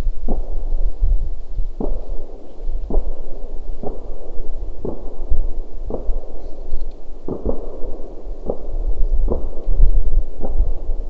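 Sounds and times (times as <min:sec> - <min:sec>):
low rumble: 0:00.0 - 0:11.0
distant fireworks bangs: 0:00.2 - 0:01.1, 0:01.7 - 0:11.0.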